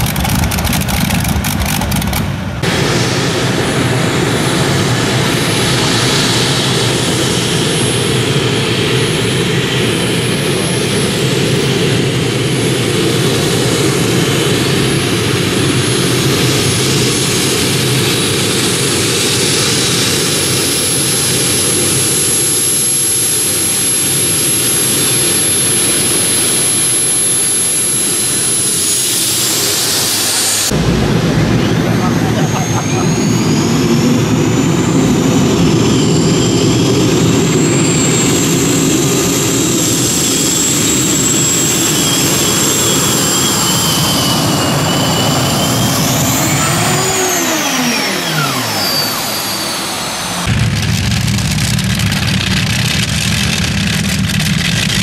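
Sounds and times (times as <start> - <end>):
deep engine: 0.0 - 55.0
gas turbine whine: 0.0 - 55.0
loud rushing exhaust: 0.0 - 55.0.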